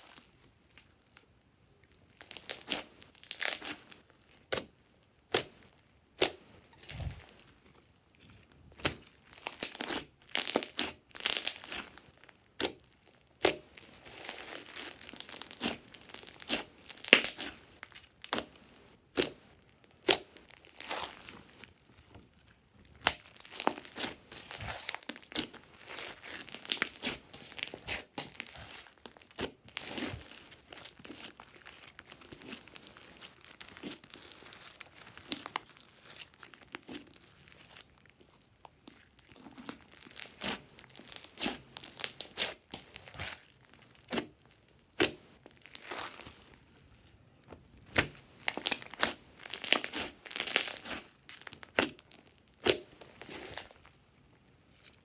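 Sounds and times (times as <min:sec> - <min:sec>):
slime squishing with wet clicks: 0:00.1 - 0:06.8, 0:07.5 - 0:46.2, 0:47.3 - 0:55.0.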